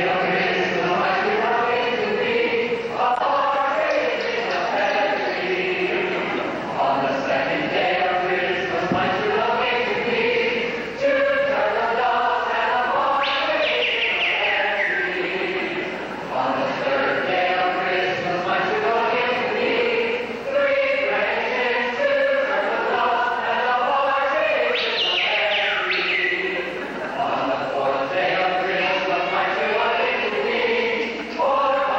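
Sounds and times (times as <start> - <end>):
choir singing: 0.0 - 31.9.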